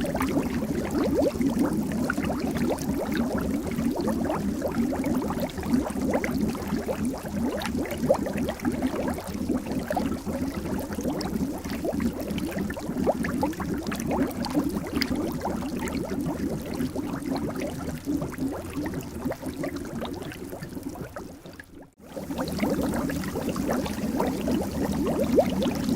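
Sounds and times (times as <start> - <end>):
water bubbling: 0.0 - 25.9.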